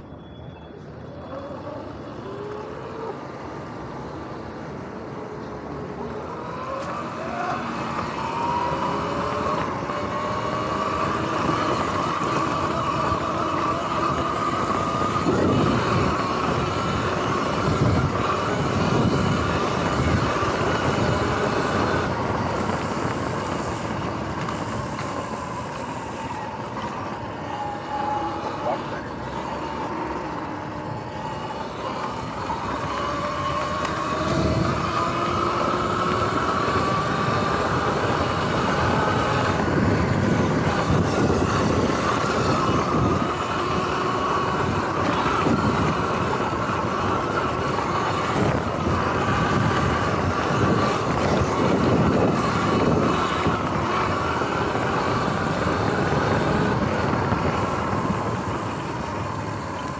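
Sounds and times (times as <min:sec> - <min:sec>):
electric motor whining: 0:01.3 - 0:59.9
rushing wind: 0:01.5 - 0:59.9.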